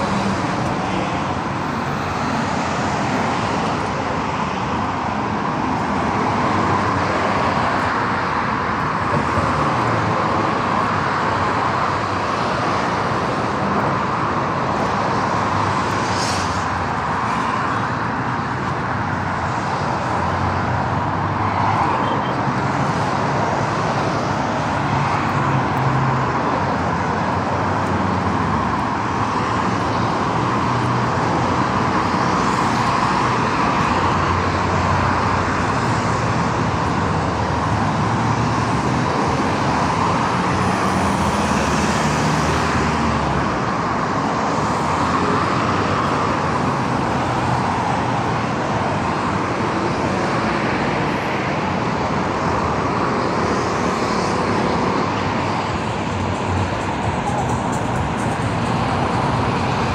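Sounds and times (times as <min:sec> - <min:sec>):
heavy vehicle engines passing: 0:00.0 - 0:59.9
road traffic rush: 0:00.0 - 0:59.9.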